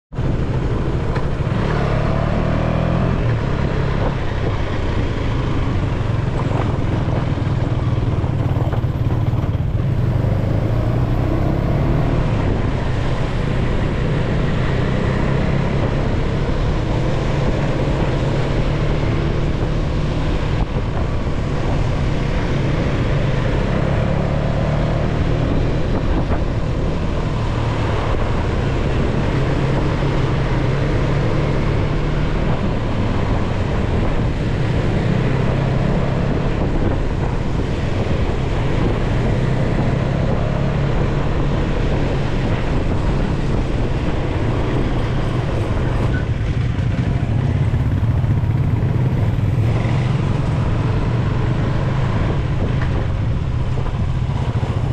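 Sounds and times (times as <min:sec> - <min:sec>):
wind rushing over microphone: 0:00.1 - 0:54.9
motorcycle engine running: 0:00.2 - 0:54.9.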